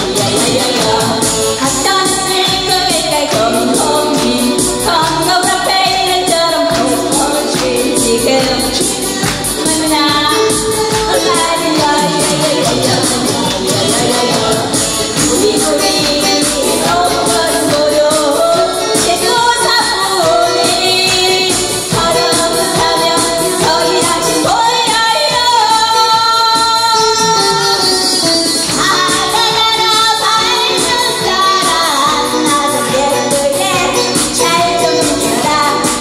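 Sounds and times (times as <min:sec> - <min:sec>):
backing music with steady beat: 0:00.0 - 0:36.0
woman singing into microphone: 0:00.0 - 0:36.0.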